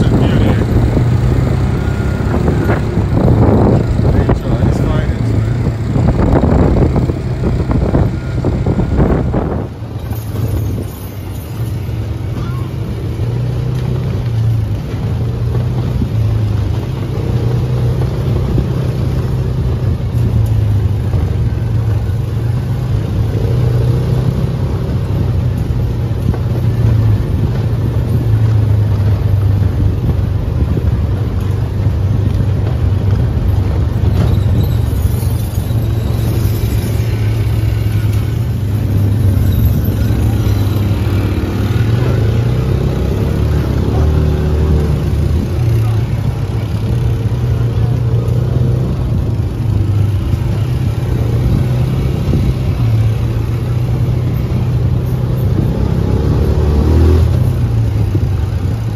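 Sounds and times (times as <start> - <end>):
road and wind noise: 0.0 - 58.9
utility vehicle engine droning: 0.0 - 58.9.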